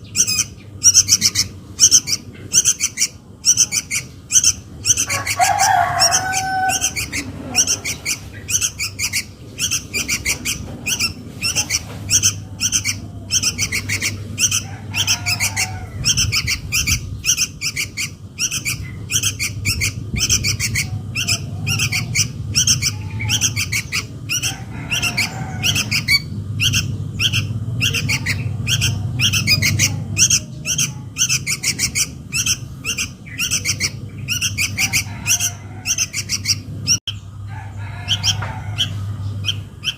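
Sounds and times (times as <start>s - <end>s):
lower bird calls: 0.0s - 39.9s
steady low hum: 0.0s - 39.9s
young birds begging chirps: 0.0s - 39.9s.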